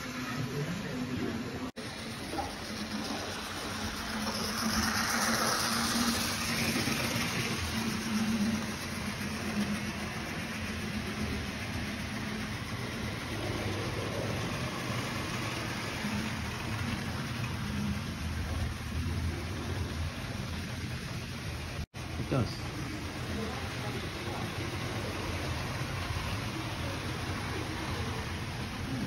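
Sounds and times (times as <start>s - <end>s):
model trains rolling on track: 0.0s - 29.0s.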